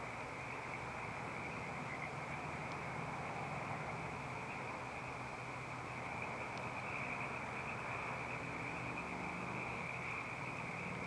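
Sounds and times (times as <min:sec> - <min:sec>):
night chorus of calling animals: 0:00.0 - 0:11.0.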